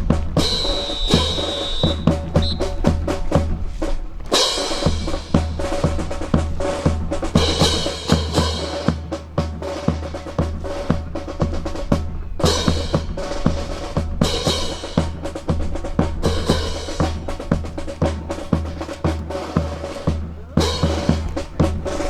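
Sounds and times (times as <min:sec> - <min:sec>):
drum kit beat: 0:00.0 - 0:22.0.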